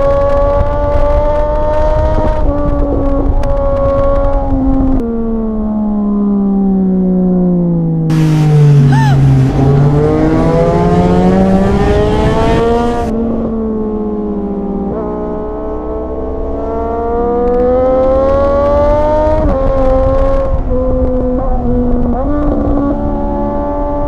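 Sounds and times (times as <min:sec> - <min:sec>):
motorcycle accelerating and shifting gears: 0:00.0 - 0:24.0.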